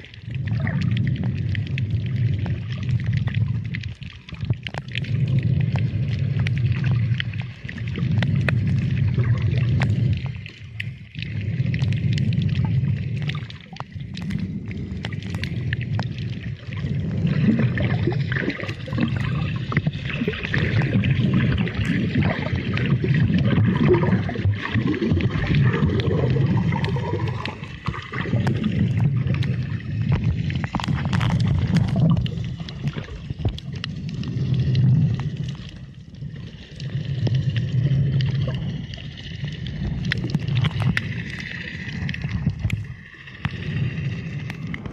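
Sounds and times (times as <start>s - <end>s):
low underwater rumble: 0.0s - 44.9s
sharp clicks and crackles: 0.0s - 44.9s.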